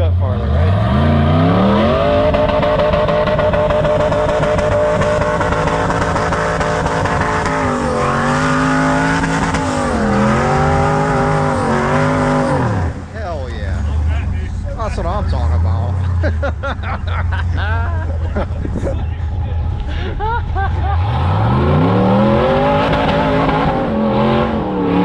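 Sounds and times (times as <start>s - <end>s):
buggy engine revving hard: 0.0s - 25.0s.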